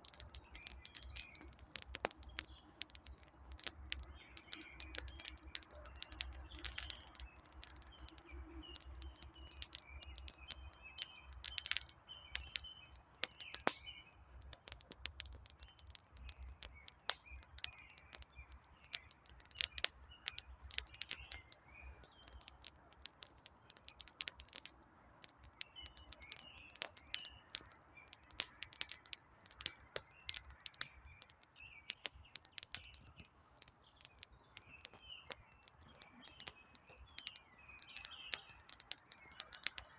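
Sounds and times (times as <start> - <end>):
small birds chirping: 0.0 - 39.9
wood fire crackling: 0.0 - 39.9.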